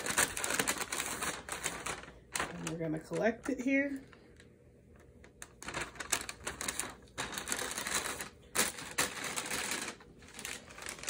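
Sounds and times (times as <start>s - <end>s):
paper bag crinkling: 0.0s - 4.4s, 5.2s - 11.0s.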